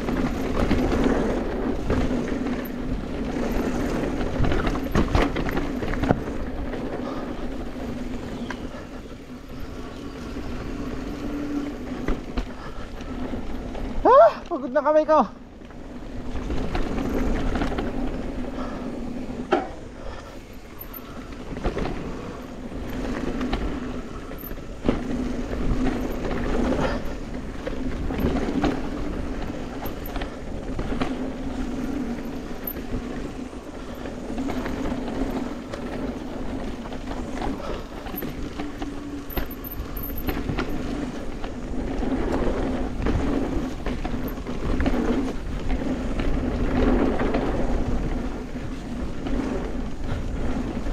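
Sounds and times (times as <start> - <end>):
wind rumble on microphone: 0.0 - 14.5, 15.2 - 50.9
bike rattles and clicks: 0.0 - 50.9
bike tyres on dirt trail: 0.0 - 50.9.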